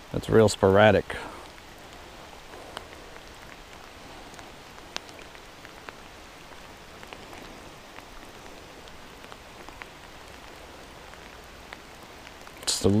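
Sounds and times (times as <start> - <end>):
rain falling on lake: 0.0 - 13.0
raindrops ticking: 0.0 - 13.0.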